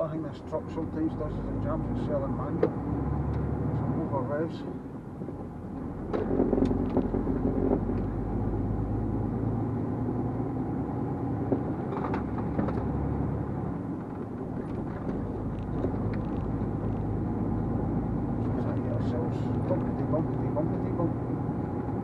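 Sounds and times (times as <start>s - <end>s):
lorry diesel engine drone: 0.0s - 22.0s.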